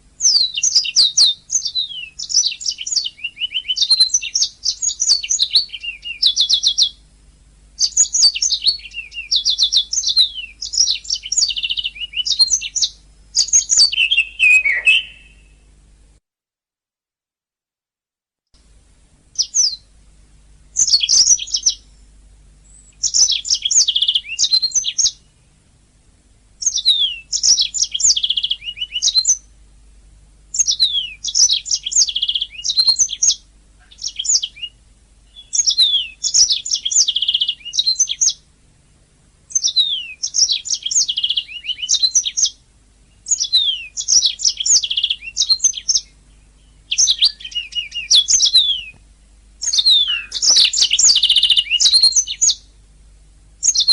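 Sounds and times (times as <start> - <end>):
low steady hum: 0.0 - 16.2, 18.6 - 53.9
canary singing: 0.2 - 7.0, 7.8 - 15.7, 19.4 - 19.9, 20.7 - 22.0, 22.6 - 25.5, 26.6 - 29.6, 30.5 - 38.5, 39.5 - 49.0, 49.6 - 52.7, 53.6 - 53.9.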